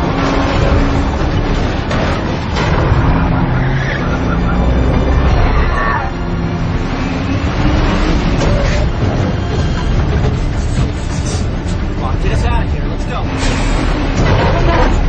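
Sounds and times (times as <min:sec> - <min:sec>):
road noise: 0:00.0 - 0:15.0
vehicle engines running hard: 0:00.0 - 0:15.0.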